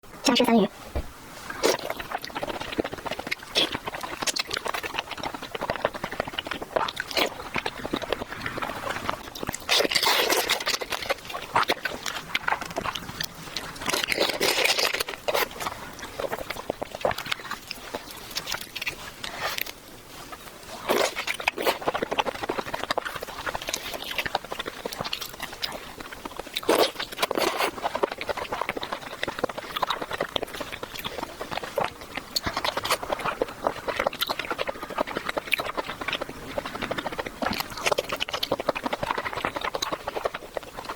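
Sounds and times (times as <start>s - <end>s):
chewing with wet clicks: 1.5s - 40.9s.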